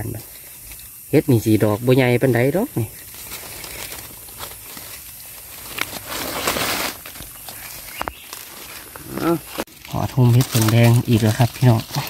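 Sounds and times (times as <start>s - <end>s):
dry leaves rustling and crackling: 0.0s - 12.0s.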